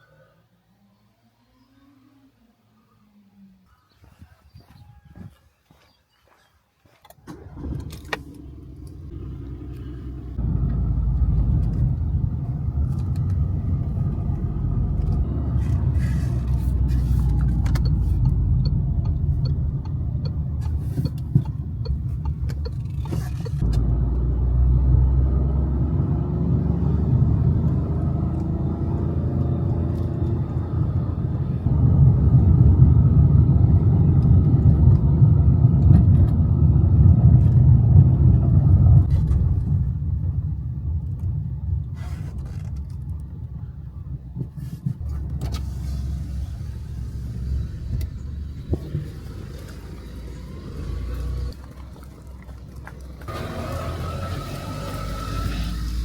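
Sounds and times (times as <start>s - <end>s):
car road and engine rumble: 7.2s - 56.0s.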